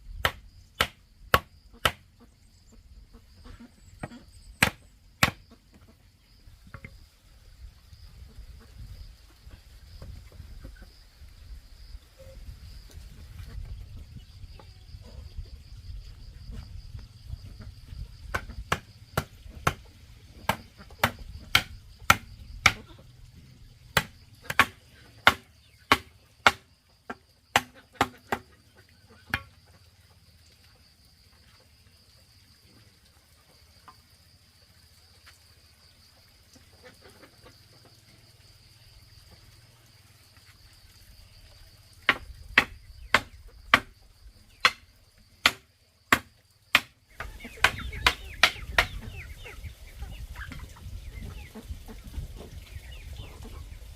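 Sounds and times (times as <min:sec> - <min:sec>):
insects chirring: 0:00.0 - 0:53.9.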